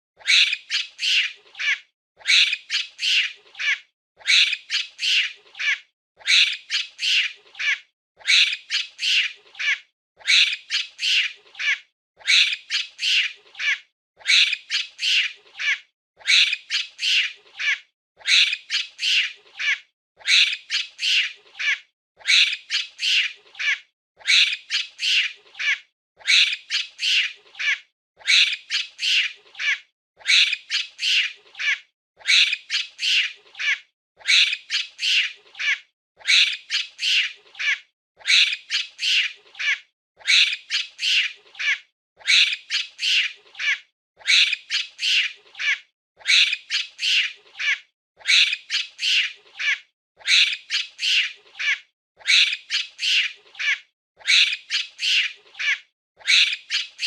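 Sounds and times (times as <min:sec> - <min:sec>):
monkey squawking cries: 0:00.2 - 0:57.0.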